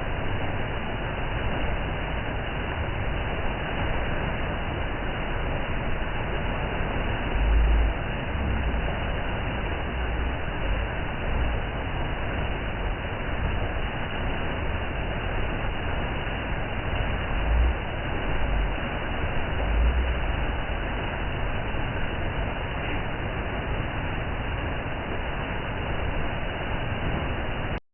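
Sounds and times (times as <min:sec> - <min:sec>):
low rumbles: 0:00.0 - 0:27.8
waterfall roaring: 0:00.0 - 0:27.8.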